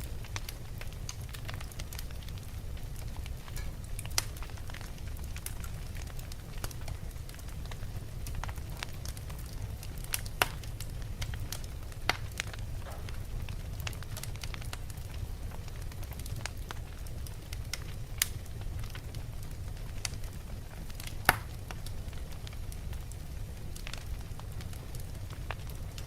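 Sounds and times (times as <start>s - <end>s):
low rumble of flames: 0.0s - 26.0s
fire pops and snaps: 0.1s - 26.0s.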